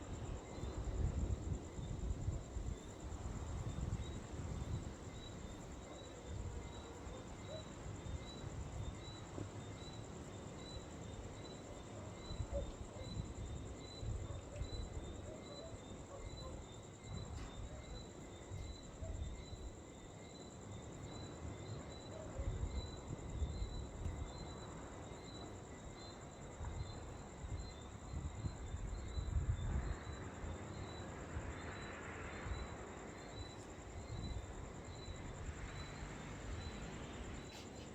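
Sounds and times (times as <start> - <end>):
insect chirping: 0.0 - 37.9.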